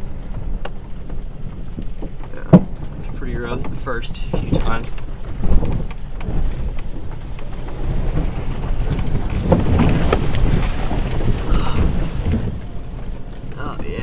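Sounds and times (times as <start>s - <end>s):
car cabin rumble on rough ground: 0.0s - 14.0s.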